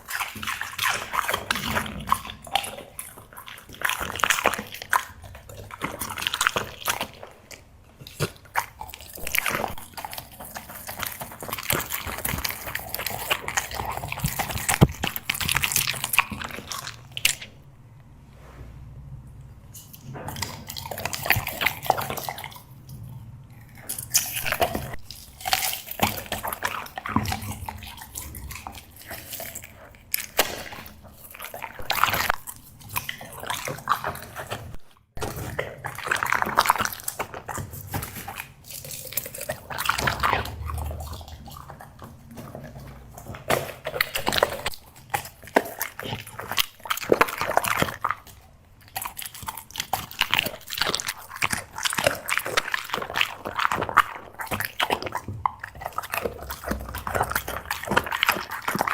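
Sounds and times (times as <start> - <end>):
dog chewing and crunching treats: 0.0 - 17.7, 19.7 - 58.9.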